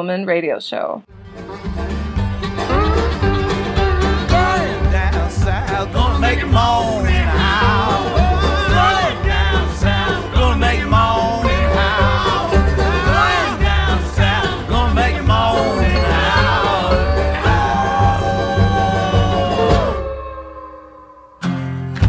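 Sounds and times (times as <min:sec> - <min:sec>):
bluegrass string-band song: 0:01.1 - 0:20.2.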